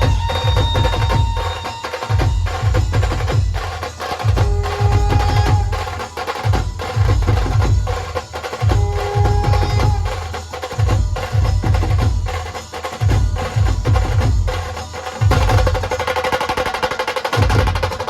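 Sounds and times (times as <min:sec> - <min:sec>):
fast drum rattle: 0:00.0 - 0:18.0
heavy drum strokes: 0:00.0 - 0:18.0.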